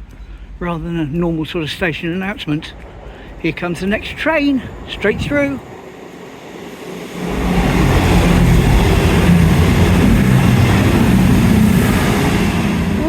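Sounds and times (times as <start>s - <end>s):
train passing with rumble: 0.0s - 13.0s.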